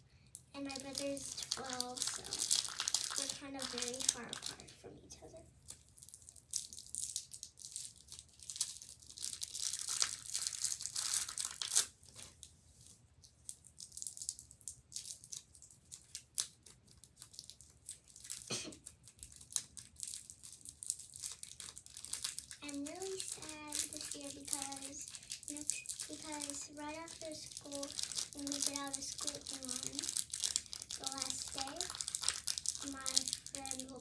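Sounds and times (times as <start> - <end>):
cellophane wrappers crinkling: 0.3 - 4.8, 5.6 - 34.0.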